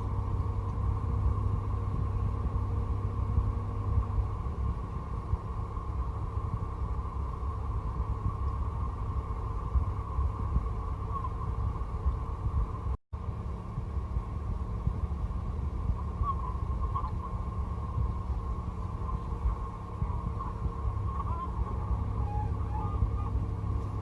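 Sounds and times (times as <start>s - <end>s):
car interior road rumble: 0.0s - 24.0s
faint steady hum: 0.0s - 24.0s.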